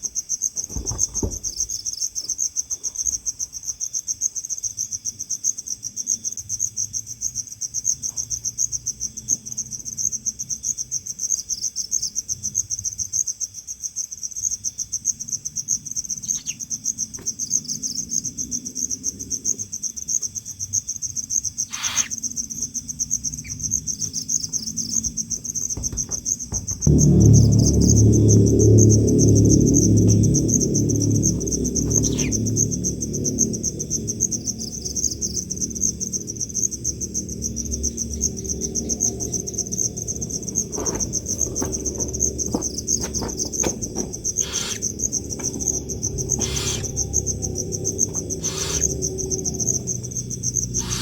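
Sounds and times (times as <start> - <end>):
crickets chirping: 0.0 - 51.0.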